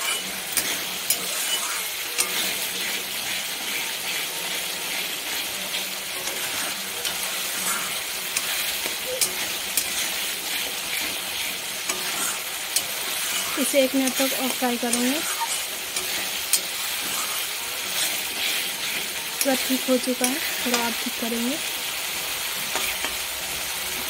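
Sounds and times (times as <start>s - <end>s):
spatula scraping and tapping pan: 0.0s - 21.4s, 22.6s - 23.3s
masala sizzling in oil: 0.0s - 24.0s.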